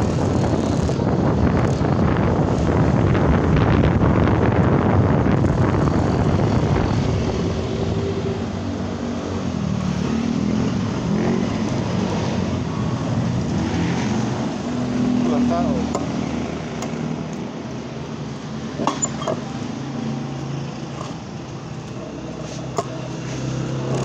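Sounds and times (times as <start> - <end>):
vehicle engines running: 0.0 - 24.0
wind rumbling on microphone: 0.0 - 24.0.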